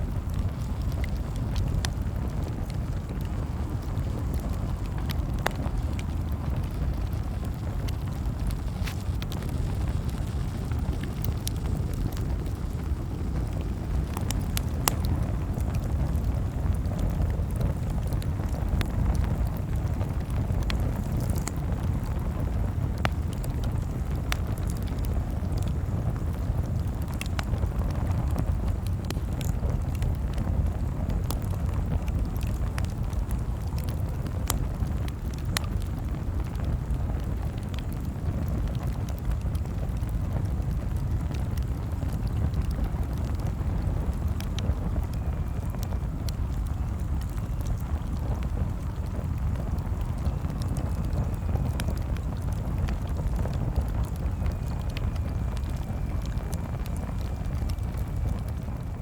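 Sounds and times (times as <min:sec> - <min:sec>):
campfire crackling: 0:00.0 - 0:59.0
steady low rumble: 0:00.0 - 0:59.0.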